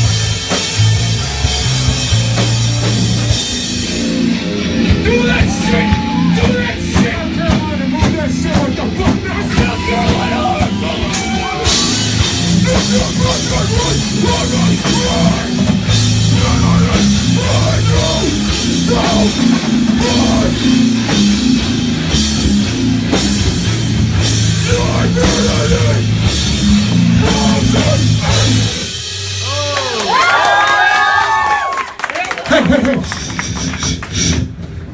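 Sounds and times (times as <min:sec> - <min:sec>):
live punk band playing: 0:00.0 - 0:34.9.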